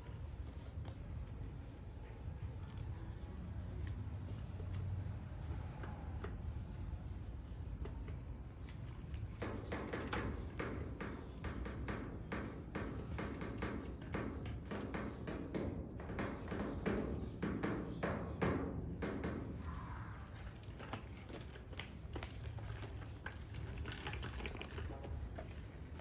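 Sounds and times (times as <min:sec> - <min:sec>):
bicycle rattling over concrete: 0:00.0 - 0:26.0.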